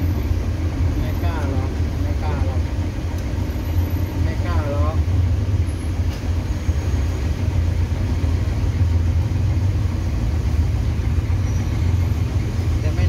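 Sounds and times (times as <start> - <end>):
bus engine low rumble: 0.0 - 13.0.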